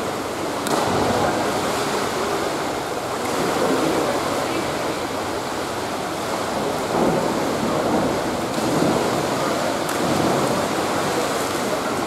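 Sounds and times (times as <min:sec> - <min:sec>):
rushing splashing water: 0:00.0 - 0:12.0.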